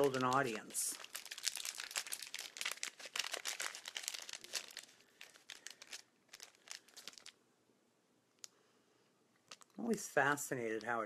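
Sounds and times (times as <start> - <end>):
crinkly packaging crackling: 0.0 - 7.4, 9.4 - 11.0.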